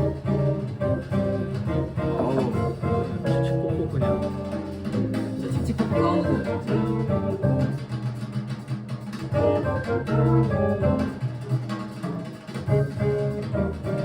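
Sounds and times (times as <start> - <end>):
double bass lines: 0.0 - 8.0, 9.3 - 11.4, 12.7 - 14.0
drums played with brushes: 0.0 - 14.0
jazz band playing: 0.0 - 14.0.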